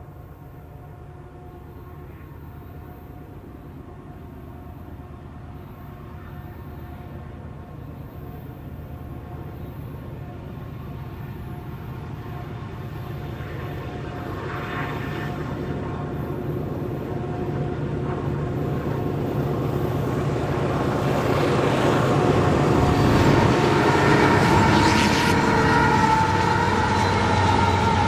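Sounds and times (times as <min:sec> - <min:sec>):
diesel locomotive engines droning: 0:00.0 - 0:28.0
wheel-on-rail noise: 0:04.4 - 0:28.0.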